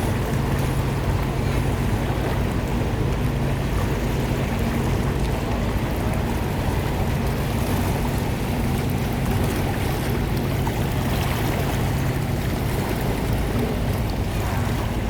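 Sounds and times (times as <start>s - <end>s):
boat engine droning: 0.0s - 15.0s
water washing: 0.0s - 15.0s.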